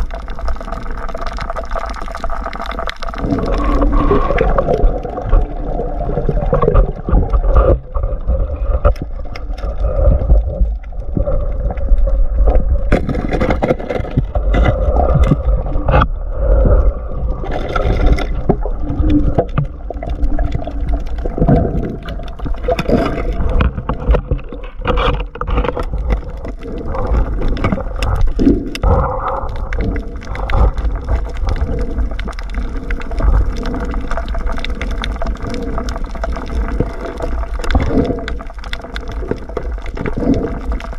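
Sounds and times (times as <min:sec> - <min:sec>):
water rushing and gurgling: 0:00.0 - 0:40.9.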